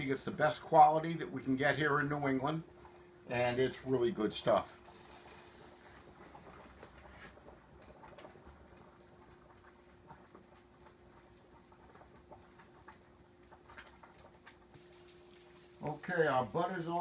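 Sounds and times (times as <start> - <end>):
faint steady hum: 0.0 - 17.0
pans ticking and popping: 0.0 - 17.0.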